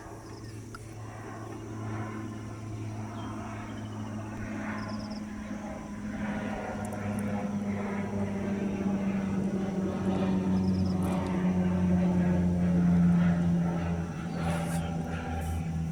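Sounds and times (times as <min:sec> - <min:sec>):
aircraft engines droning: 0:00.0 - 0:15.9.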